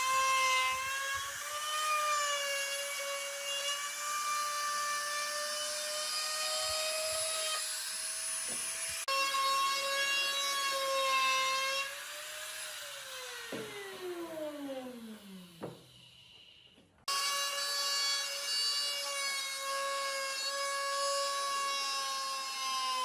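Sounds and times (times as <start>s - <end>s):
power tool high whine: 0.0s - 23.0s.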